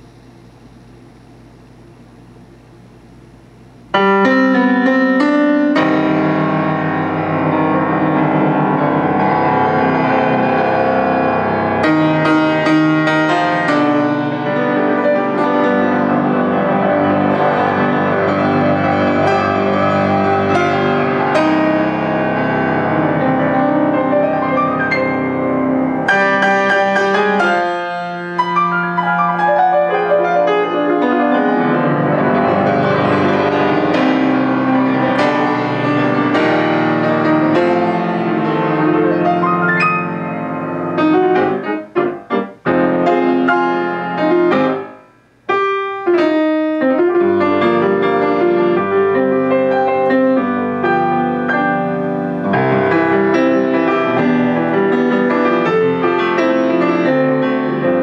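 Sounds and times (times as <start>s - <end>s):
grand piano playing: 3.9s - 58.0s.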